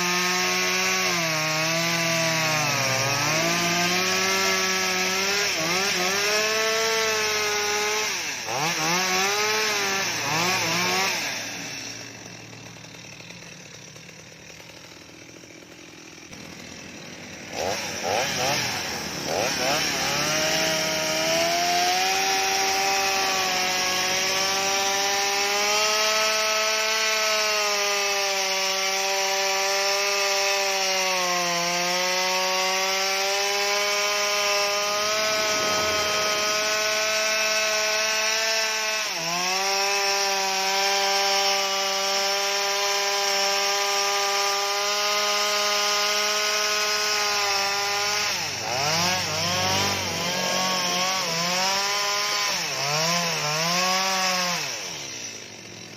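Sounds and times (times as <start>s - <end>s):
chainsaw cutting into tree trunk: 0.0s - 55.9s.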